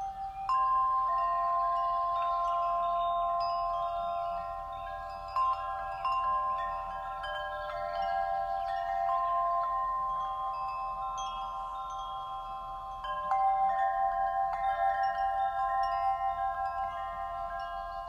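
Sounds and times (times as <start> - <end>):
chimes ringing: 0.0 - 18.0.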